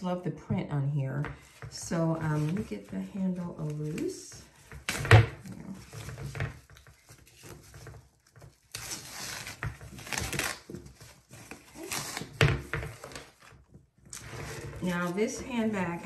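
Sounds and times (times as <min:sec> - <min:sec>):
wrapping rustling and crinkling: 0:01.4 - 0:16.0.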